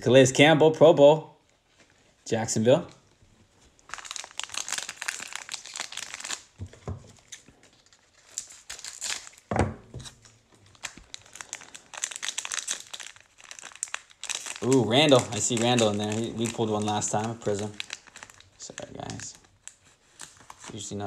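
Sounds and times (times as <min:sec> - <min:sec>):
foil wrapper crinkling: 0:03.6 - 0:21.0.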